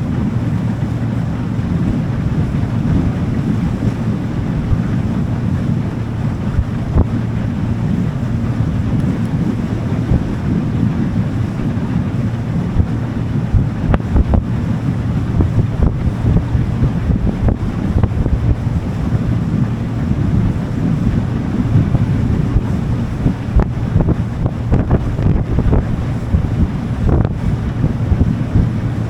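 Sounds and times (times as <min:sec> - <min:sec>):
motorboat rumble: 0:00.0 - 0:29.0
water: 0:00.0 - 0:29.0
wind buffeting microphone: 0:00.0 - 0:29.0.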